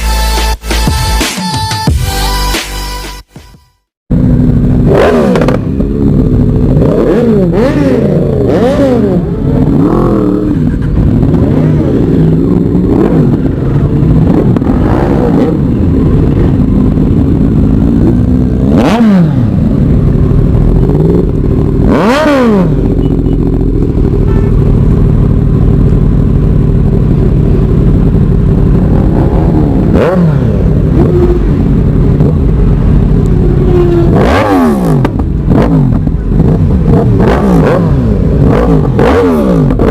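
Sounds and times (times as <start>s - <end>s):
motorcycle engine idling and revving: 4.1s - 39.9s.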